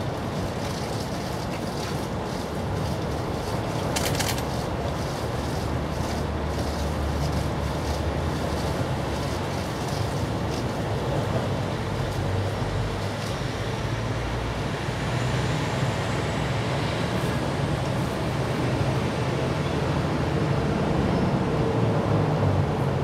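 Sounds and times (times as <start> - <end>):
outdoor rumble and hiss: 0.0 - 23.0.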